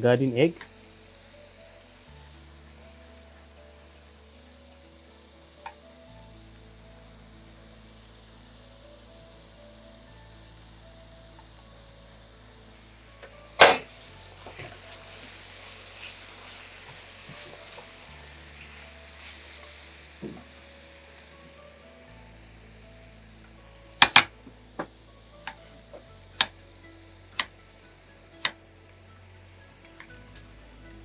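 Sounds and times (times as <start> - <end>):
food sizzling in a frying pan: 0.0 - 31.0
soft background music: 0.0 - 31.0.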